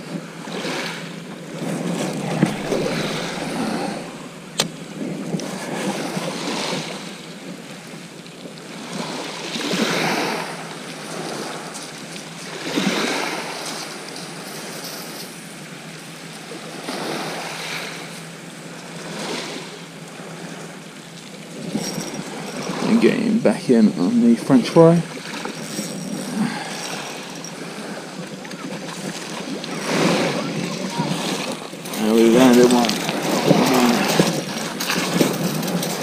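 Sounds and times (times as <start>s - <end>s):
small waves on shingle beach: 0.0s - 23.3s, 24.5s - 36.0s.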